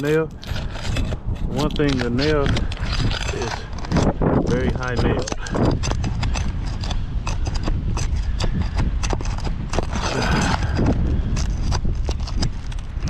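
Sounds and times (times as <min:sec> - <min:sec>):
shingle cracking and tearing: 0:00.0 - 0:13.0
steady low rumble: 0:00.0 - 0:13.0.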